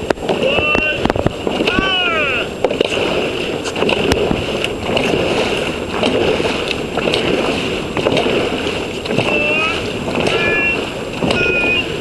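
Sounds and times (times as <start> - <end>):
paddles splashing water: 0.0 - 12.0.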